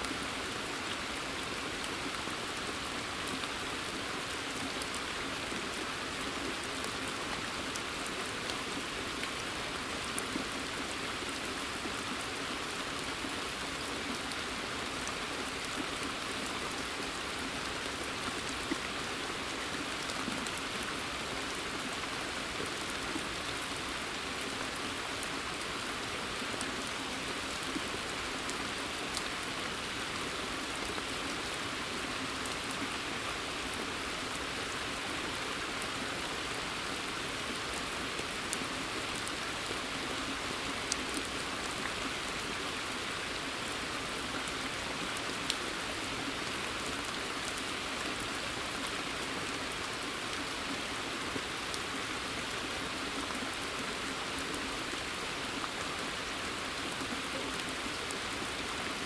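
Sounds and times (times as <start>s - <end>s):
rain falling on forest: 0.0s - 59.0s
raindrops ticking on pond: 0.0s - 59.0s.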